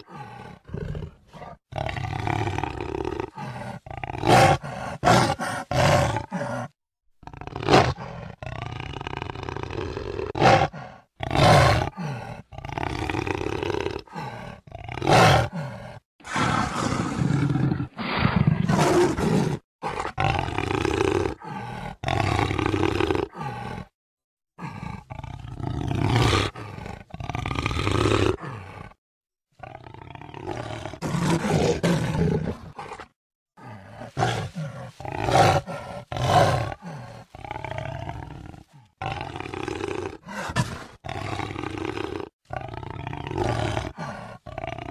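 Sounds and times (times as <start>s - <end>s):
jaguar roaring: 0.0s - 6.7s, 7.4s - 23.9s, 24.6s - 29.0s, 29.6s - 44.9s.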